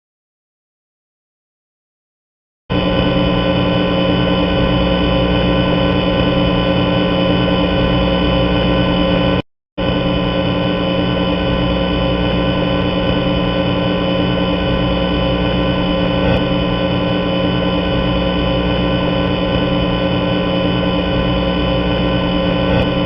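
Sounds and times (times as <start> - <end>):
electronic drone: 2.7 - 23.0.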